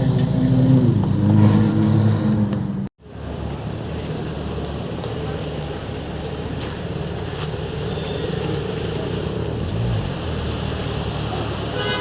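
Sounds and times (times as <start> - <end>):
low vehicle engine: 0.0 - 11.9
vehicle engines and tyre noise: 0.0 - 12.0.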